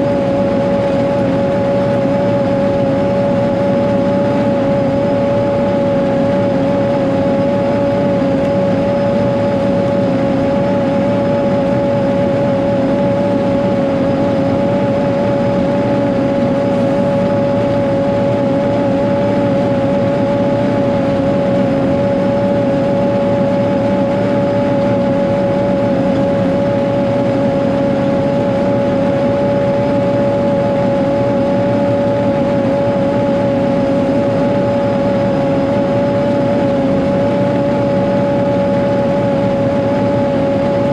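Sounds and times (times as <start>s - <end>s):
constant whine: 0.0s - 40.9s
grader diesel engine running: 0.0s - 40.9s.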